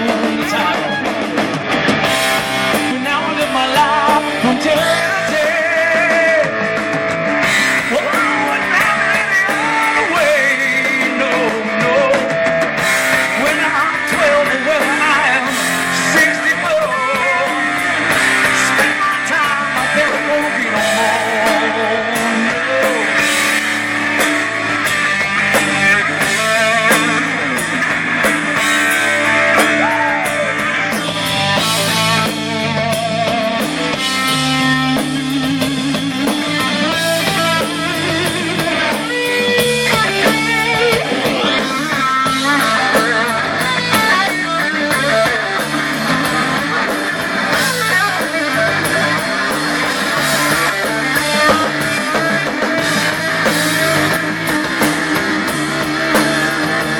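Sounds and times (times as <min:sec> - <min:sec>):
bass and drums: 0:00.0 - 0:56.9
electric guitar lead: 0:00.0 - 0:56.9.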